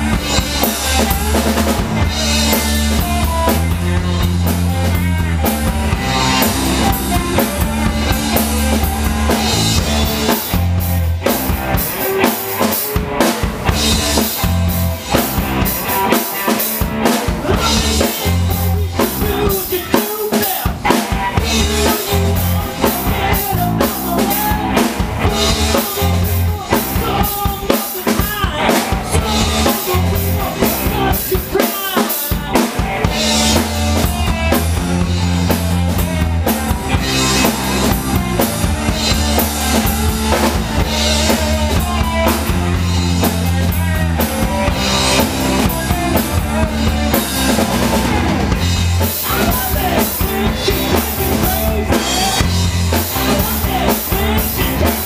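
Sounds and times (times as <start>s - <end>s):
drum kit: 0.0s - 55.0s
rock band playing live: 0.0s - 55.0s.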